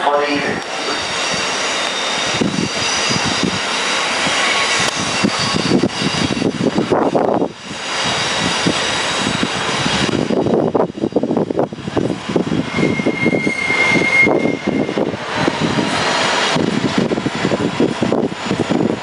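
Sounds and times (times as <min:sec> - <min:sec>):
diesel locomotive engine: 0:00.0 - 0:19.0
high wheel squeal: 0:00.3 - 0:11.3, 0:12.4 - 0:16.8.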